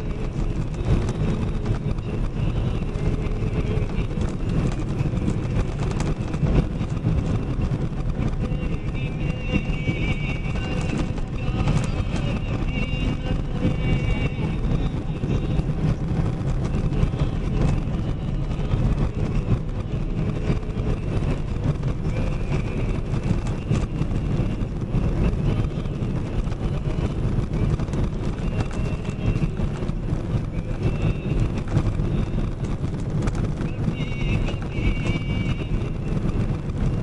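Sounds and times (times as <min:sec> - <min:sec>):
truck engine and road rumble: 0:00.0 - 0:37.0.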